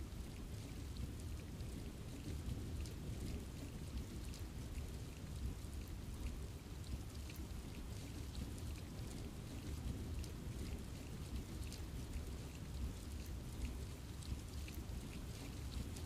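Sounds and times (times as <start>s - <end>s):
steady rain on forest: 0.0s - 16.0s.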